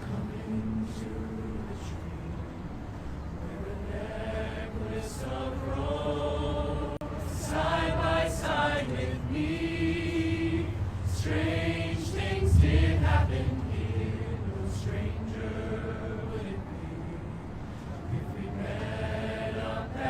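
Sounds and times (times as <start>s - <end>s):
low rumble of street noise: 0.0s - 20.0s
voices singing long held notes: 0.0s - 20.0s.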